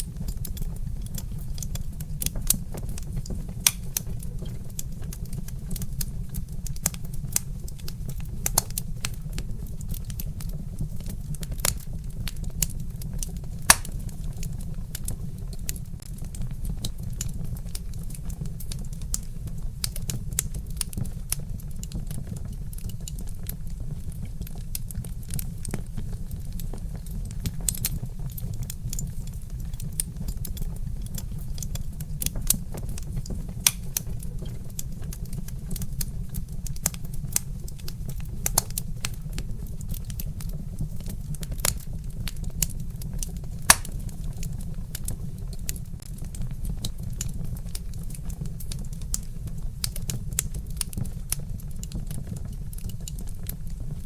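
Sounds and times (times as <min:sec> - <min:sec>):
log fire crackling and popping: 0:00.0 - 0:54.0.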